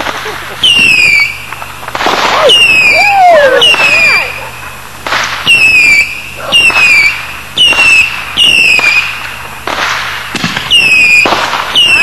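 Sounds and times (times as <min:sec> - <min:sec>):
firework bangs: 0:00.0 - 0:12.0
whistling fireworks: 0:00.0 - 0:12.0.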